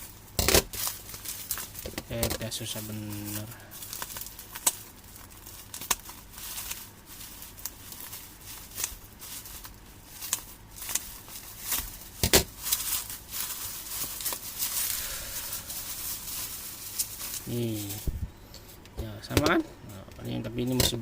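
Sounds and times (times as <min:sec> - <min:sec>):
packaging crinkling: 0:00.0 - 0:18.3
packaging rustling: 0:00.0 - 0:18.8.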